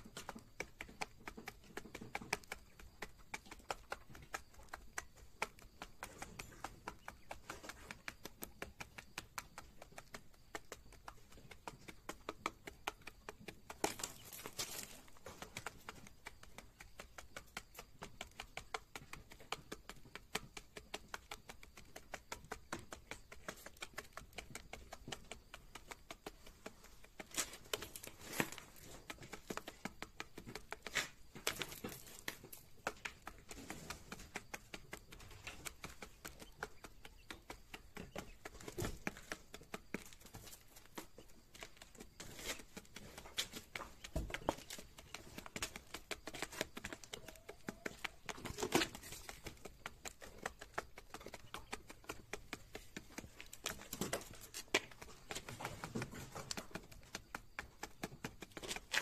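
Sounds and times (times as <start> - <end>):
quail beak tapping plastic tray: 0.0 - 59.0.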